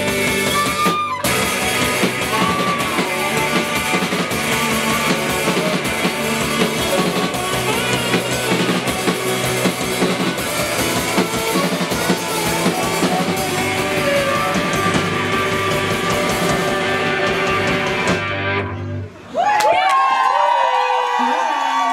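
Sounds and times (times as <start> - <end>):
drum kit beat: 0.0 - 18.5
saxophone: 0.0 - 19.0.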